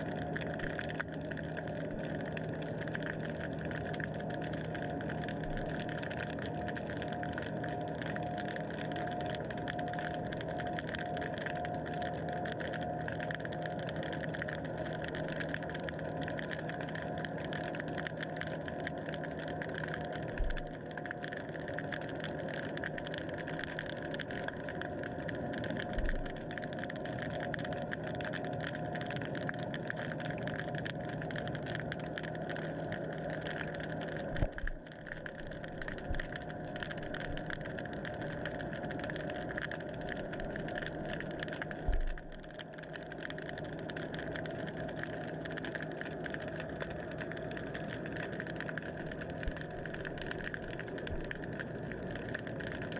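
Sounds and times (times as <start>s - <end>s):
underwater motor hum: 0.0s - 52.9s.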